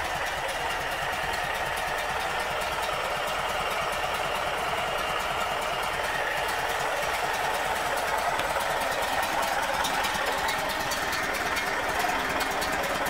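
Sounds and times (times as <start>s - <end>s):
car engine idling: 0.0s - 13.0s
fast light engine ticking: 0.0s - 13.0s.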